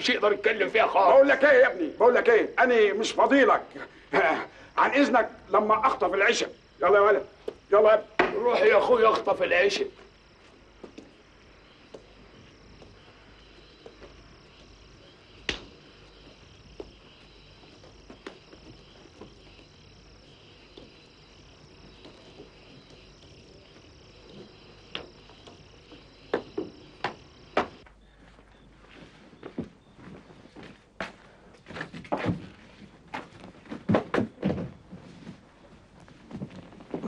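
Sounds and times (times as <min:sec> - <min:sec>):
crickets chirring: 0:00.0 - 0:37.0.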